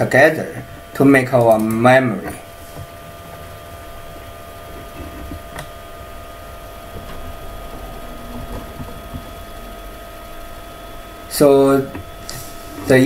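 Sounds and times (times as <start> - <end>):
steady background hum: 0.0 - 13.0
faint high whining tones: 2.4 - 13.0.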